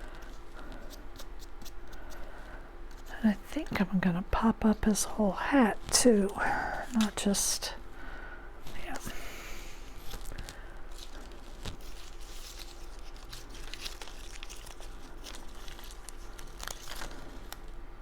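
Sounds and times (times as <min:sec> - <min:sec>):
cardstock crinkling and rustling: 0:00.0 - 0:07.7, 0:08.6 - 0:17.8.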